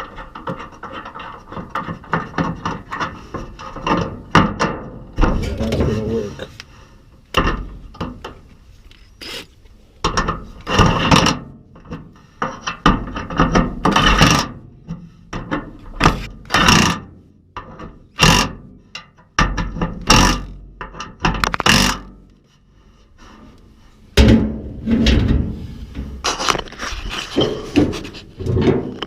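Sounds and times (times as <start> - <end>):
metal clanks and rattles: 0.0 - 6.6, 7.2 - 8.6, 10.0 - 22.4, 23.4 - 29.0.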